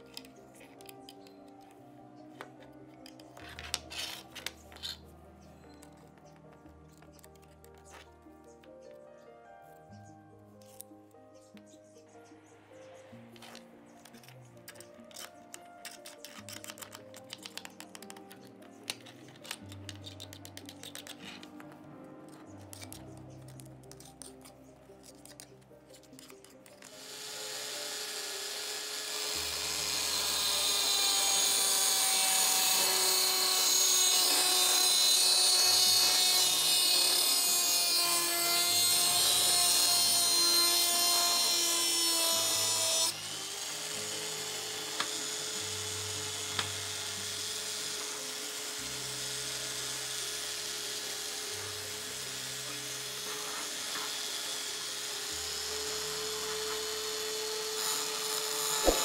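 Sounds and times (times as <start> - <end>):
rotary tool whining cutting metal: 2.4 - 7.9, 13.3 - 21.7, 22.6 - 59.0.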